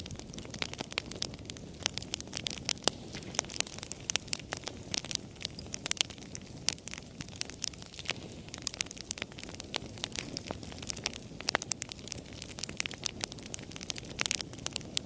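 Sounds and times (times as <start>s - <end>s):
burning wood crackling and popping: 0.0s - 15.0s
rumble of fire flames: 0.0s - 15.0s.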